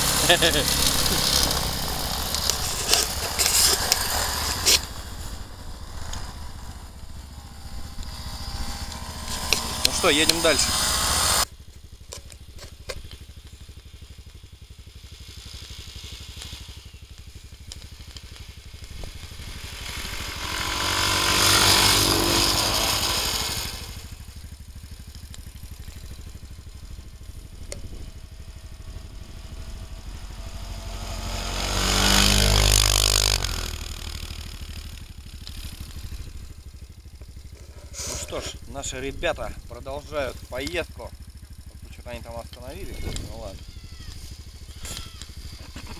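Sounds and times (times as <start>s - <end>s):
faint engine drone: 0.0s - 45.9s
off-road vehicle engines passing: 0.0s - 45.9s.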